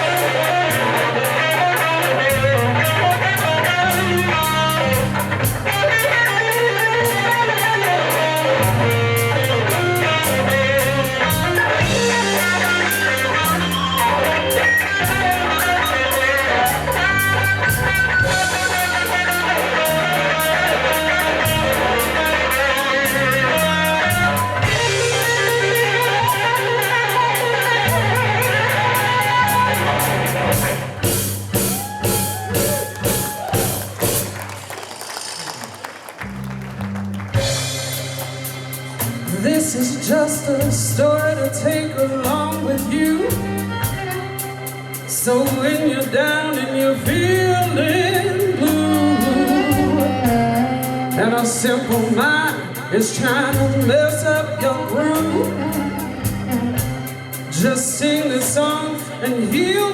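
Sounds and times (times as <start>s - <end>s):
guitar lead with bending notes: 0.0s - 34.4s, 36.3s - 59.9s
bass guitar: 0.0s - 59.9s
drum kit beat: 0.0s - 59.9s.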